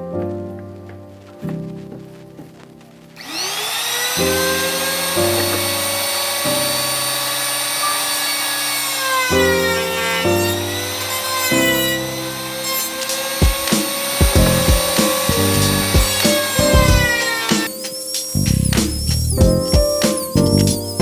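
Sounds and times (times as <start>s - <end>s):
electric saw motor whining: 3.2s - 20.9s.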